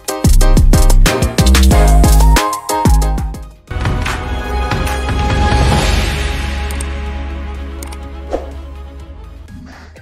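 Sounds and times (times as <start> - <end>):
theme music: 0.0 - 9.6.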